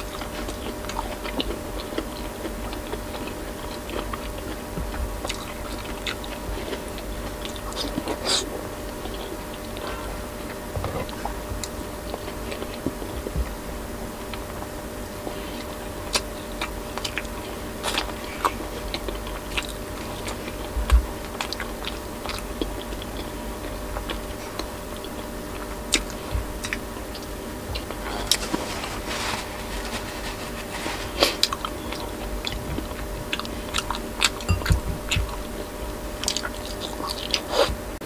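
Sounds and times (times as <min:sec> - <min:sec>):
person chewing with wet smacks: 0:00.0 - 0:13.6, 0:14.2 - 0:28.6, 0:31.2 - 0:37.8
steady background hum: 0:00.0 - 0:38.0.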